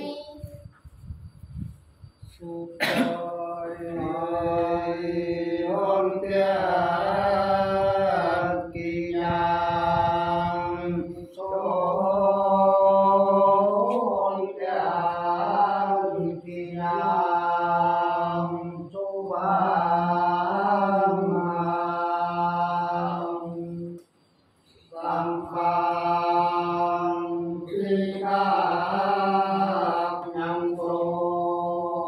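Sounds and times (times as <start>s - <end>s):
unaccompanied folk singing: 0.0s - 0.7s, 2.2s - 24.1s, 24.7s - 32.0s.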